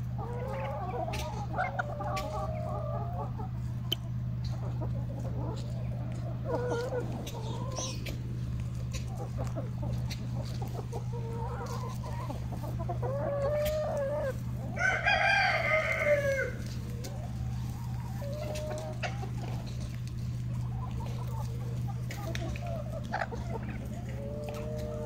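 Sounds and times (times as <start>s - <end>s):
hens clucking: 0.0s - 25.0s
steady low hum: 0.0s - 25.0s.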